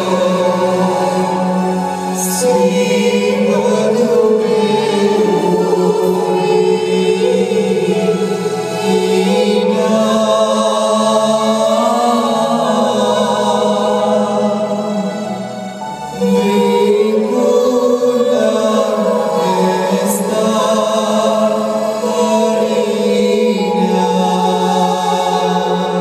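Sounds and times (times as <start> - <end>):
hymn singing: 0.0 - 26.0
keyboard accompaniment: 0.0 - 26.0.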